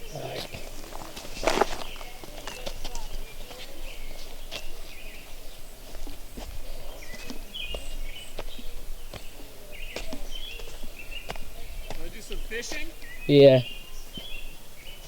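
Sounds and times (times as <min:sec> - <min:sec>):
footsteps: 0:00.0 - 0:13.0
birds chirping: 0:00.0 - 0:15.0.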